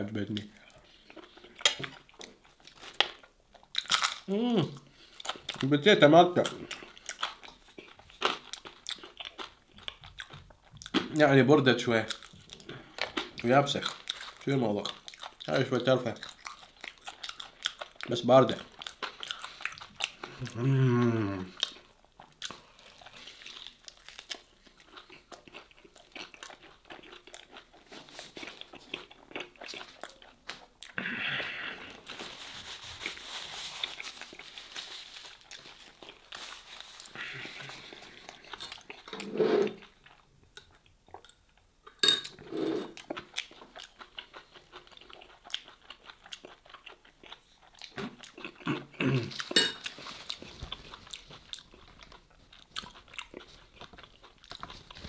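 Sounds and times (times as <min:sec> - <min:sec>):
chewing and crunching: 0:00.3 - 0:11.2, 0:12.0 - 0:20.6, 0:21.5 - 0:42.0, 0:42.8 - 0:55.0.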